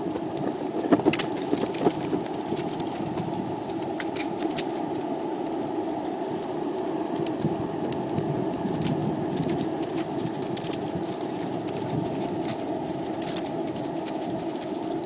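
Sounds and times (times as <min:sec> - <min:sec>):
skateboard wheels rolling on pavement: 0:00.0 - 0:15.0.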